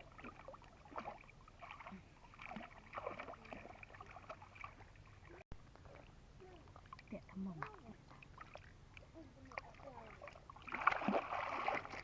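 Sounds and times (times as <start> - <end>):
water splashing by hand: 0.0 - 12.0.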